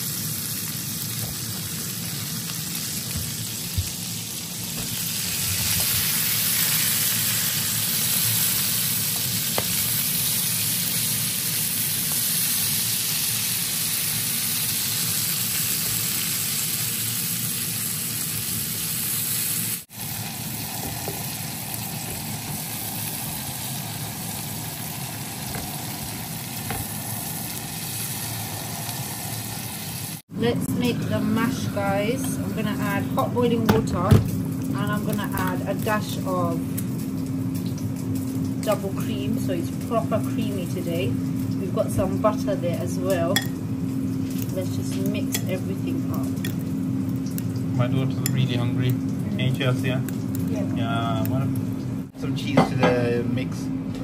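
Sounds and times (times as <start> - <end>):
vegetables sizzling in butter: 0.0 - 52.2.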